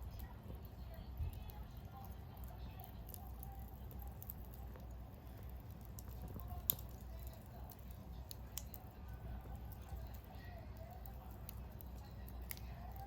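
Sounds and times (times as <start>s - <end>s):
fire popping: 0.0s - 13.0s
wood fire crackling: 0.0s - 13.0s.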